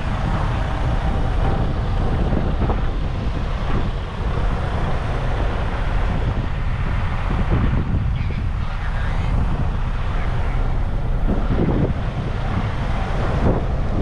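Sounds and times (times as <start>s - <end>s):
low rumble: 0.0s - 14.0s
vehicle noise: 0.0s - 14.0s
wind buffeting microphone: 0.0s - 14.0s.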